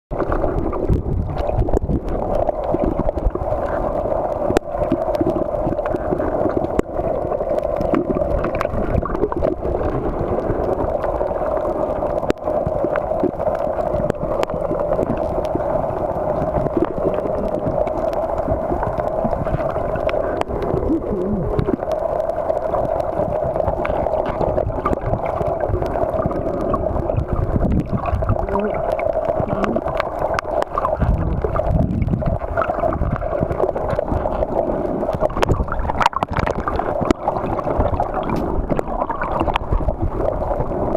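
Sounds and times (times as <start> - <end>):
clicks and crackles: 0.1 - 40.9
muffled underwater hum: 0.2 - 40.9.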